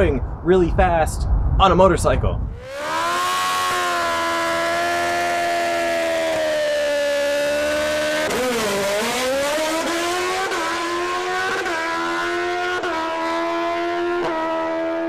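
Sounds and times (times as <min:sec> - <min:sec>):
motorcycle engine revving: 0:02.5 - 0:15.0.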